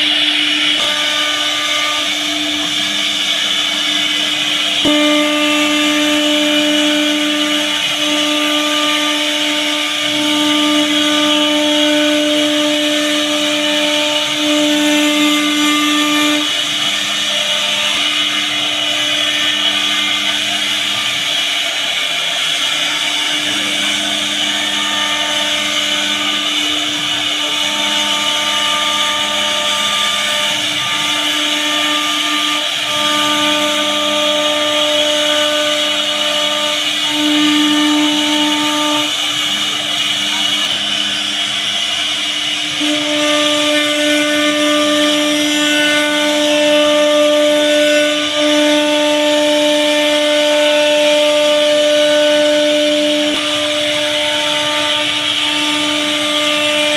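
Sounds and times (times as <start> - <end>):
hiss of bit cutting wood: 0.0 - 56.9
router spindle whining: 0.0 - 56.9.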